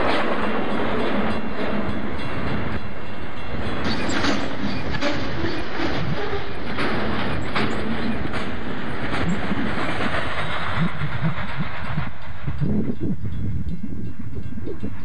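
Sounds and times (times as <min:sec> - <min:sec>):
freight train rolling past: 0:00.0 - 0:15.0
wheels clicking over rail joints: 0:00.0 - 0:15.0.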